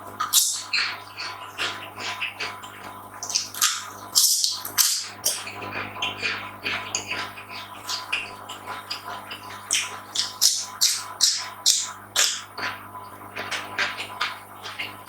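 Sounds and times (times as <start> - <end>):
wet chewing and smacking: 0.1 - 12.8, 13.4 - 15.0.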